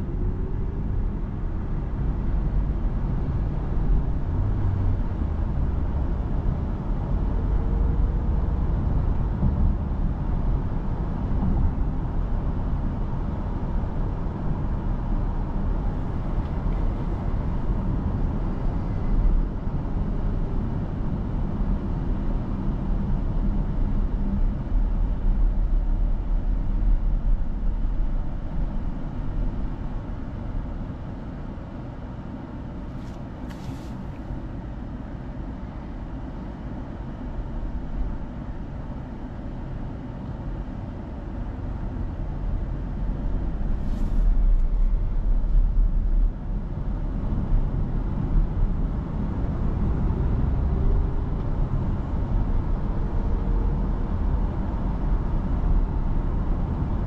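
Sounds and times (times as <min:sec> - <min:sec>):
car tyre and road rumble: 0:00.0 - 0:57.0.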